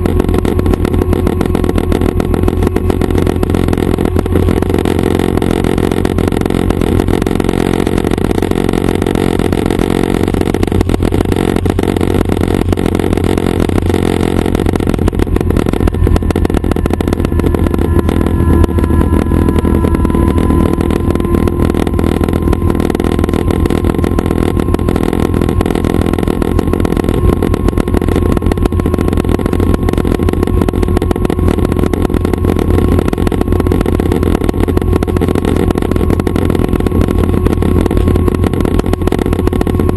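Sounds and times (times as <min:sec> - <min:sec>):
faint thin whine: 0:00.0 - 0:39.9
helicopter engine and rotors droning: 0:00.0 - 0:39.9.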